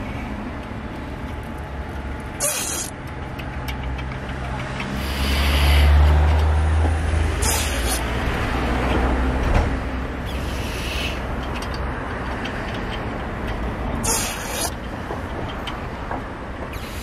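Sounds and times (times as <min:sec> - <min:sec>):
passing vehicle engine rumble: 0:00.0 - 0:17.0.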